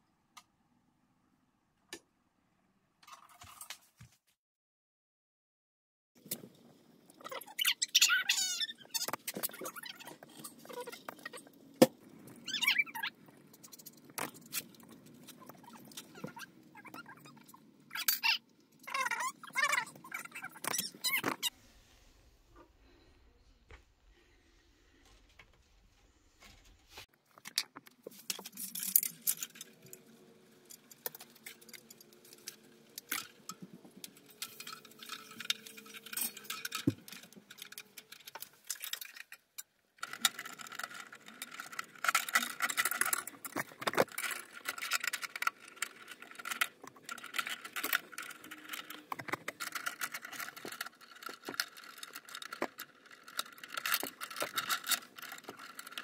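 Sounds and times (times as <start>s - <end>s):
wires rustling and clicking: 6.2s - 21.6s, 24.9s - 56.0s.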